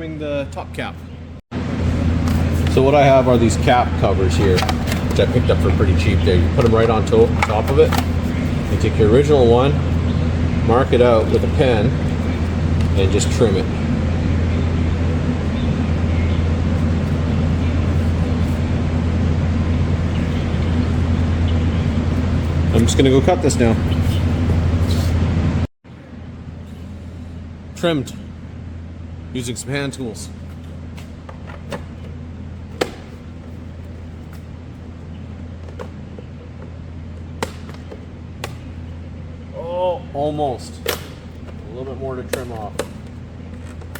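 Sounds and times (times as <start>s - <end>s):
engine drone: 0.0s - 43.9s
steady low hum: 0.0s - 43.9s.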